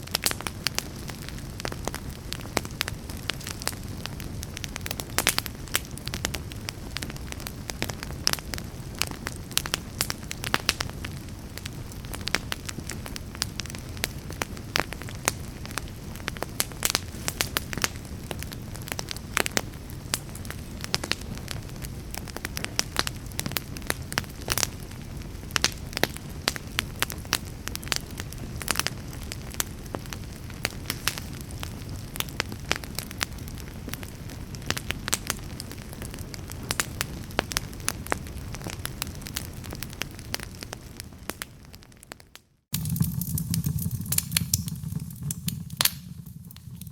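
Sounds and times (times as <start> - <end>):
fire crackles and pops: 0.0 - 46.9
wood fire rumble: 0.0 - 46.9.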